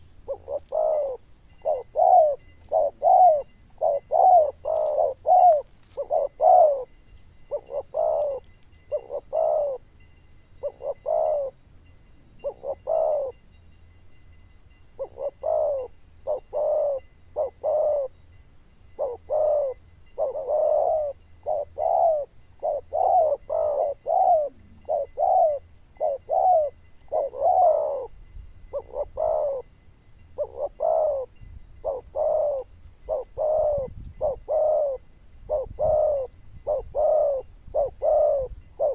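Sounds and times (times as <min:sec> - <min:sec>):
dove cooing: 0:00.0 - 0:09.9, 0:10.6 - 0:11.6, 0:12.4 - 0:13.4, 0:15.0 - 0:18.2, 0:19.0 - 0:29.7, 0:30.4 - 0:38.9.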